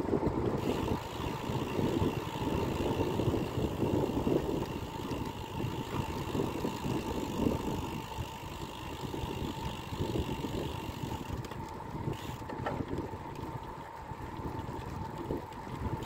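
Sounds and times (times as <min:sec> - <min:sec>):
wind rushing over microphone: 0:00.0 - 0:13.3
bicycle tyre noise on road: 0:00.0 - 0:16.0.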